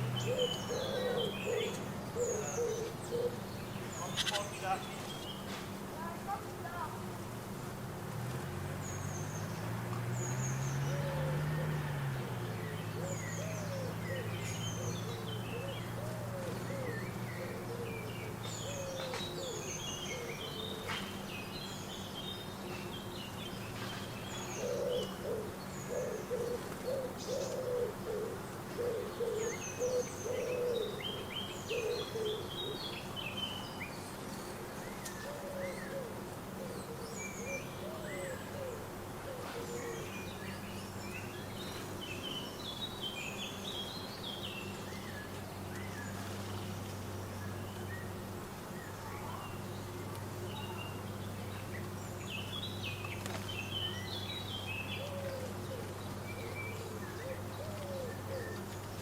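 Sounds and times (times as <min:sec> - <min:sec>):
small birds chirping: 0:00.0 - 0:07.3, 0:08.2 - 0:59.0.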